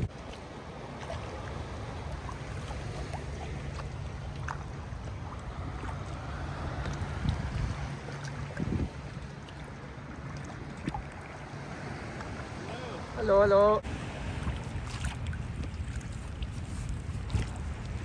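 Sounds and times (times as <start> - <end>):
water splashing and dripping: 0.0 - 12.8, 13.8 - 18.0
wind rumble on microphone: 0.0 - 18.0.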